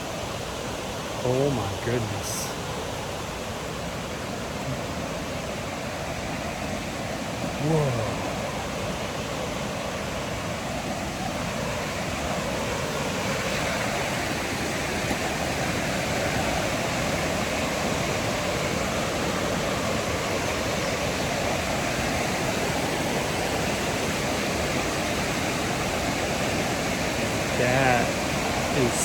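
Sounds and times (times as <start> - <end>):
waterfall rushing: 1.1 - 23.9, 24.7 - 29.0.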